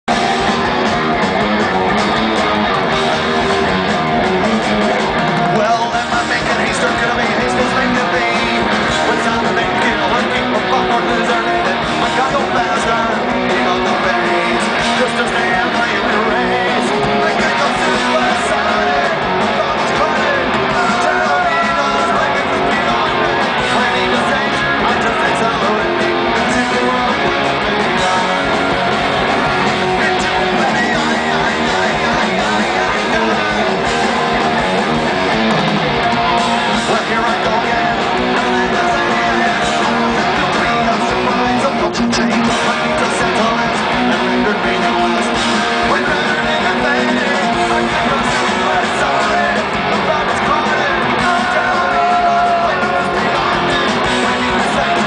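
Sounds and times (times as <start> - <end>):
punk rock band playing live: 0.0 - 55.0
person singing: 5.3 - 55.0.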